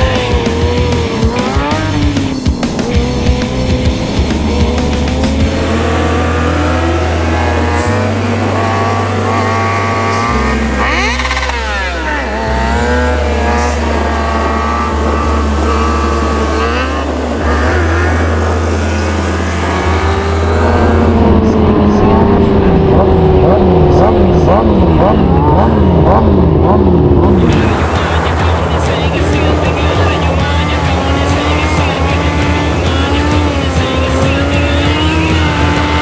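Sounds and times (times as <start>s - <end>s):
motorcycle engines revving: 0.0s - 36.0s
music with deep bass line: 0.0s - 36.0s.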